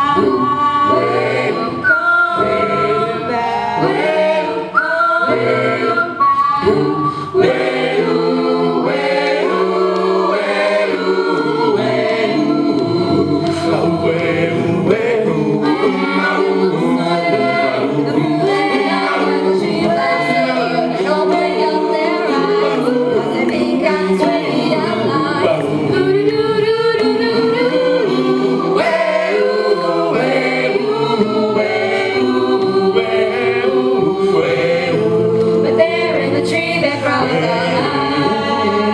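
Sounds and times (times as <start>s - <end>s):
choir singing a cappella: 0.0s - 38.9s.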